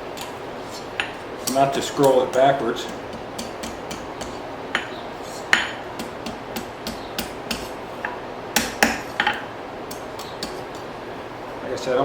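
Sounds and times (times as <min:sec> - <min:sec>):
steady hiss: 0:00.0 - 0:12.0
hammer striking hot steel: 0:01.0 - 0:10.9.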